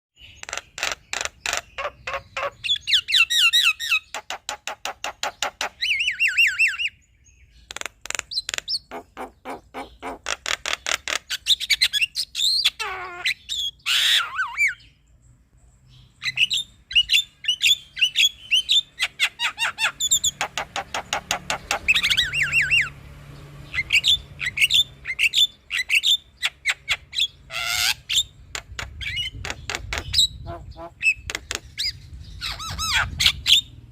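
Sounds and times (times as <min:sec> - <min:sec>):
bird singing with clicks and whistles: 0:00.2 - 0:15.0, 0:15.9 - 0:23.0, 0:23.6 - 0:33.9.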